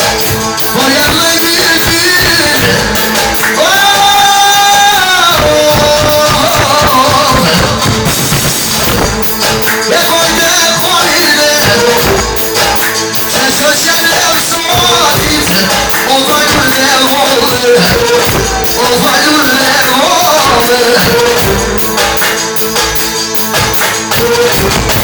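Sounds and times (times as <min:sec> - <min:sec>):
band playing: 0:00.0 - 0:25.0
person singing: 0:00.0 - 0:25.0.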